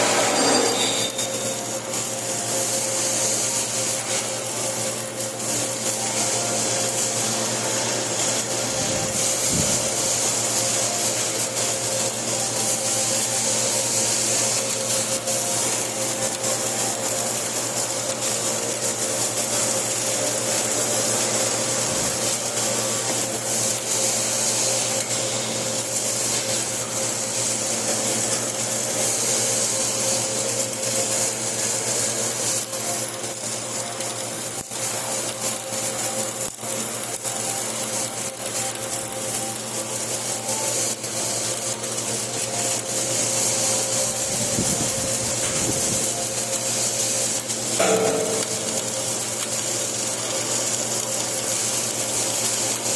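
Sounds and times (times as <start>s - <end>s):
welding arc crackling hiss: 0.0s - 52.9s.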